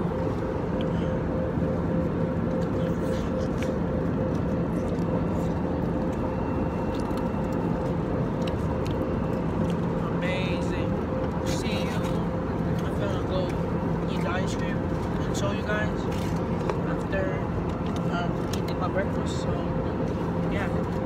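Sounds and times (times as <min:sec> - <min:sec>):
jet cabin engine drone: 0:00.0 - 0:21.0.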